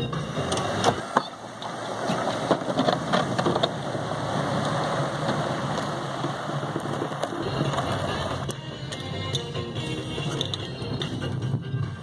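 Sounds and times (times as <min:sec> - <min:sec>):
truck driving on snow: 0:00.0 - 0:12.0.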